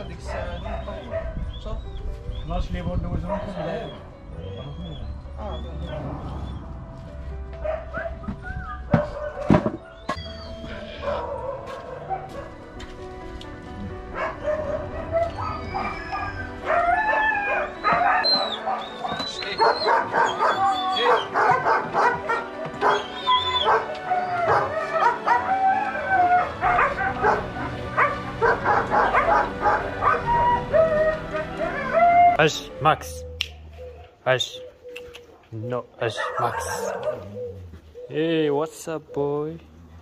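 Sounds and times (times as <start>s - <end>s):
dogs barking: 0.0s - 2.0s, 3.0s - 6.8s, 7.5s - 13.0s, 13.9s - 38.2s
background music: 0.0s - 40.0s.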